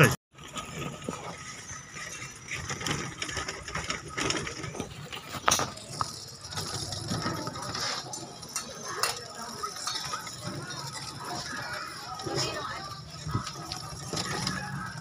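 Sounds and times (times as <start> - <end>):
tricycle sidecar rattling and clicking: 0.0 - 15.0.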